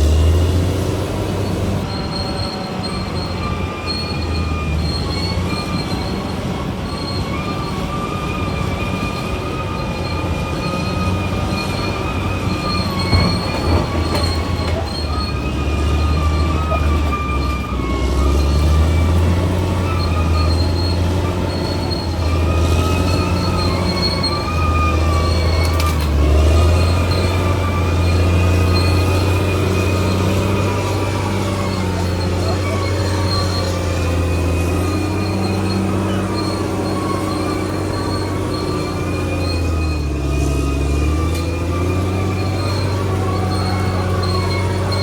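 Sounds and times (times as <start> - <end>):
bulldozer diesel engine rumbling: 0.0 - 45.0
steel tracks squealing: 0.0 - 45.0.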